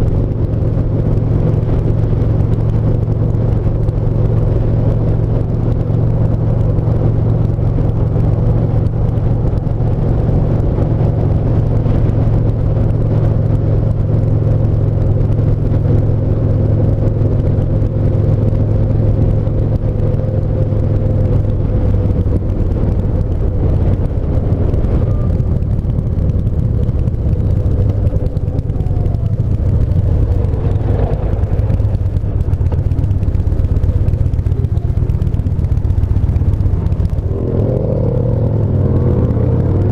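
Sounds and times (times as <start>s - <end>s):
motorcycle engine cruising: 0.0s - 39.9s
road noise: 0.0s - 39.9s.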